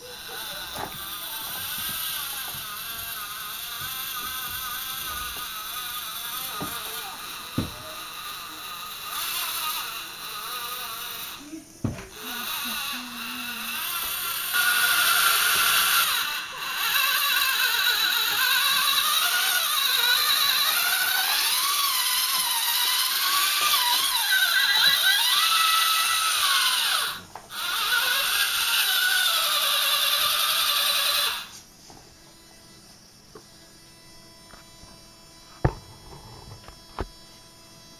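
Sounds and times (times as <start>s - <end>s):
electric motor and gearbox whining: 0.0s - 37.9s.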